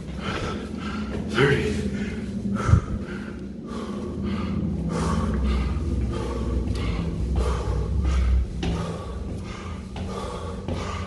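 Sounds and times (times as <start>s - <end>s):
man breathing hard: 0.0s - 11.0s.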